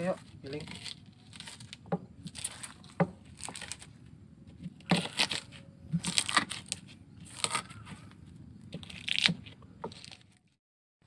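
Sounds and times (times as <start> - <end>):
pestle crushing in a mortar: 0.0 - 10.6.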